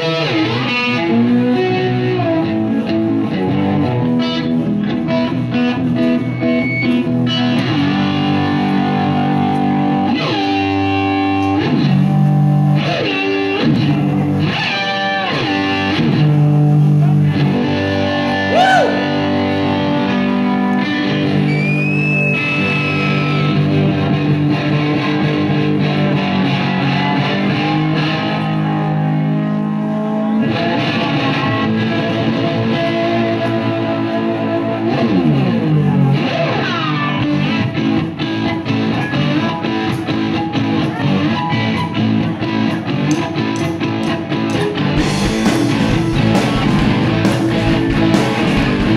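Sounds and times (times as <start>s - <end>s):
distorted electric guitar: 0.0s - 48.9s
rock band playing live: 0.0s - 48.9s.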